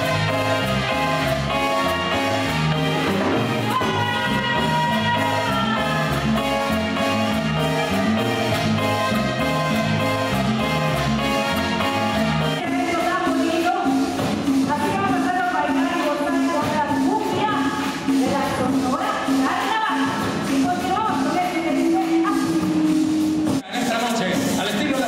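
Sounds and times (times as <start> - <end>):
latin dance band music: 0.0 - 25.0.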